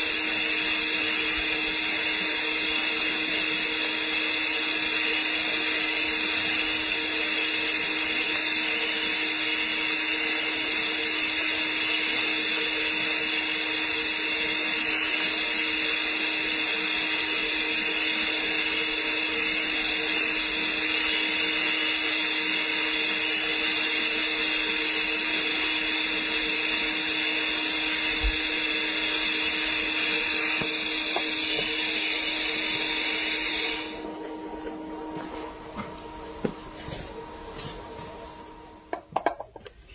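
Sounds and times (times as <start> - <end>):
welding arc hissing: 0.0 - 34.0.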